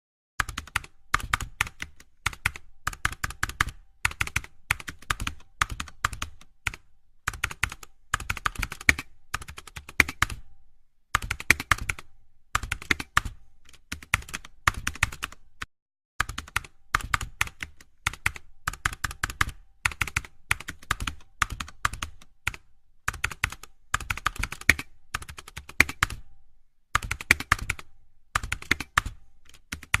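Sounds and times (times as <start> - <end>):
computer keyboard typing: 0.4 - 10.5, 11.2 - 30.0.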